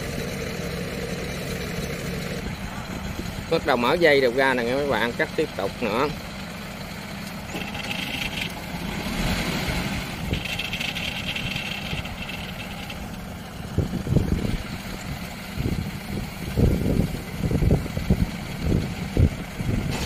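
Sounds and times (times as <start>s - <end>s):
combine harvester engine running: 0.0s - 20.0s.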